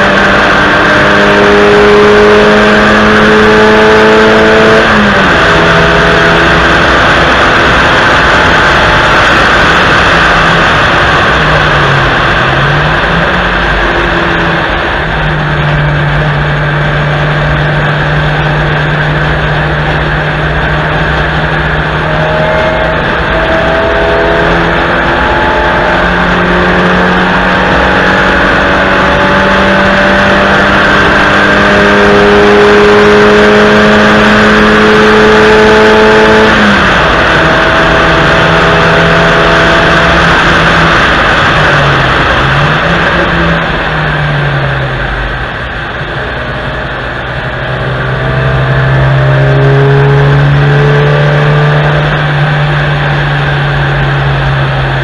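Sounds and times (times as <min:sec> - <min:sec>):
car engine revving: 0:00.0 - 0:55.0
wind and tyre noise: 0:00.0 - 0:55.0.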